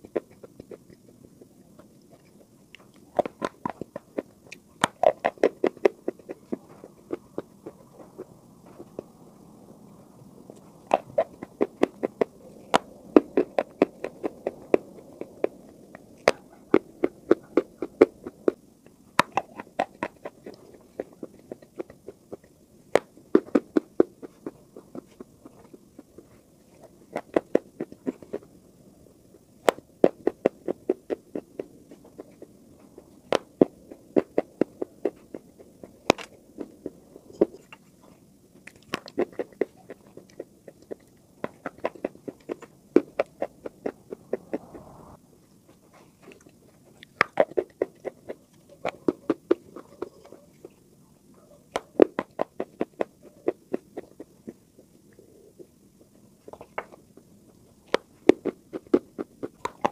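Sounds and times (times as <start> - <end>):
chalk being chewed: 0.0 - 9.1, 10.5 - 28.6, 29.3 - 50.8, 51.7 - 59.9.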